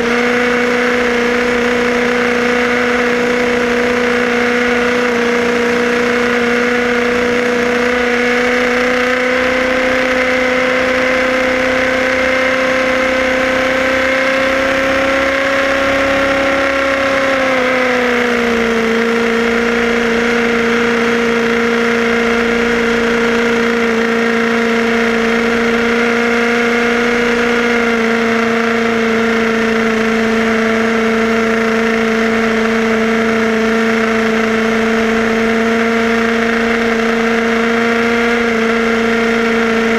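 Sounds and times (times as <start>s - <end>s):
electric motor and gears whining: 0.0s - 39.9s.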